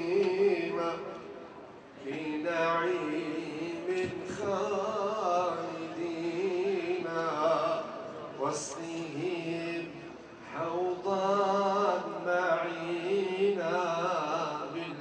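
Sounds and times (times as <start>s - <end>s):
man chanting: 0.0s - 1.3s, 2.0s - 15.0s.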